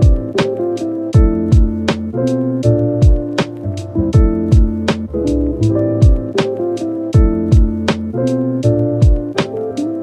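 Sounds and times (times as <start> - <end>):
drum beat with kick and snare: 0.0 - 2.1, 3.0 - 8.1, 9.0 - 10.0.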